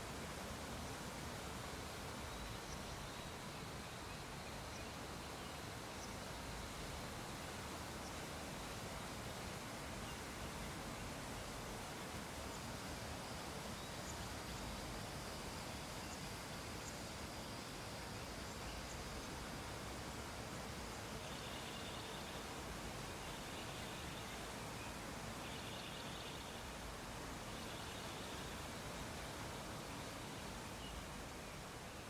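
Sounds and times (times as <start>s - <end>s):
low background hiss: 0.0s - 32.0s.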